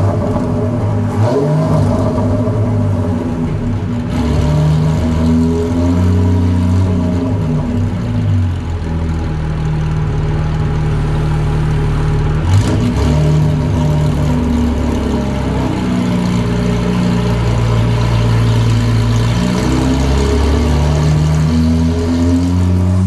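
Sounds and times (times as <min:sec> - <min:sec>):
car engine running on a dyno: 0:00.0 - 0:23.0.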